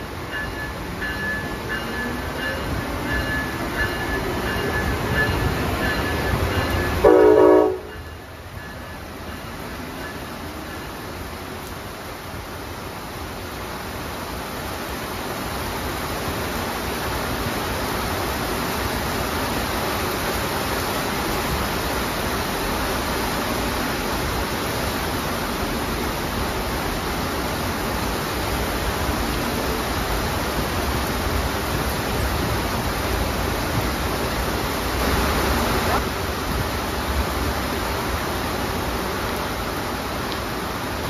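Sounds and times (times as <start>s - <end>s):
train passing in heavy rain: 0.0s - 41.0s.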